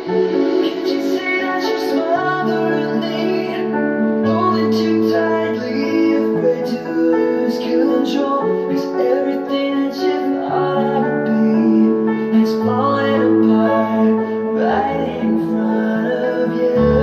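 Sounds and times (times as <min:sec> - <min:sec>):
held keyboard chords: 0:00.0 - 0:17.0
person singing: 0:00.0 - 0:17.0.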